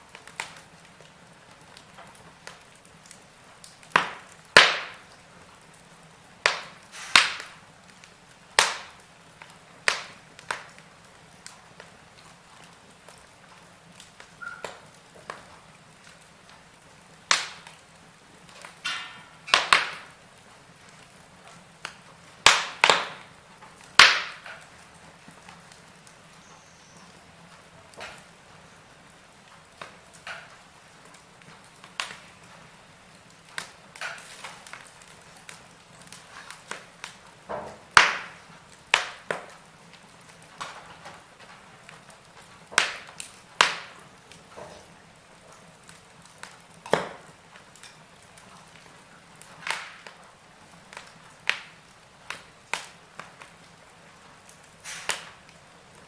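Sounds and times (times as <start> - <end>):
faint steady hiss: 0.0 - 56.0
fire crackling and popping: 0.0 - 56.0.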